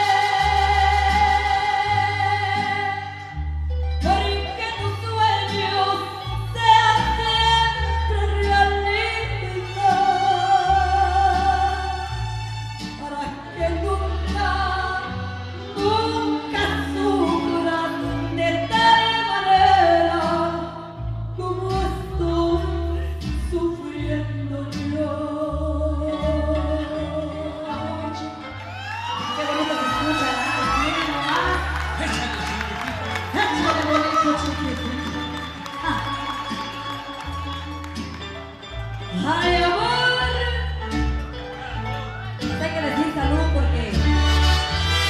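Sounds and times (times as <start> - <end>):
woman singing: 0.0 - 3.4, 4.0 - 12.3, 12.9 - 37.1, 39.1 - 41.0
bass line: 0.0 - 45.0
mariachi band with violins: 0.0 - 45.0.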